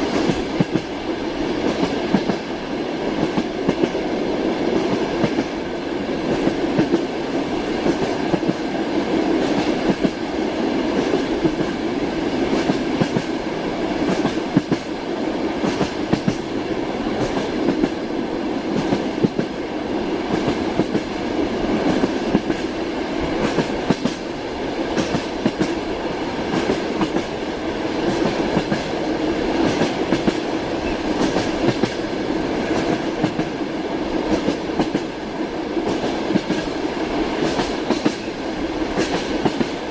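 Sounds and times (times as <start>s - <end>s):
rail clicks and knocks: 0.0s - 5.6s, 6.2s - 19.6s, 20.2s - 39.9s
train wheels rumbling on rails: 0.0s - 39.9s.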